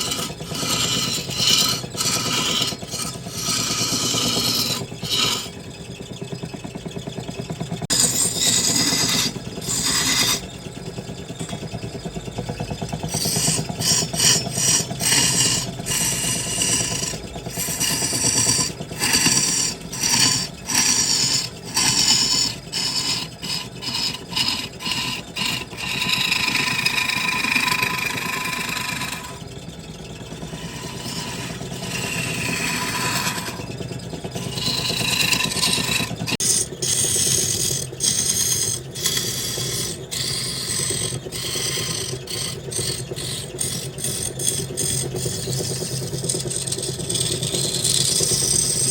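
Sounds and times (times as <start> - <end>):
turning tool cutting wood: 0.0 - 6.3, 7.8 - 11.8, 12.8 - 29.6, 30.2 - 48.9
wood lathe humming: 0.0 - 48.9.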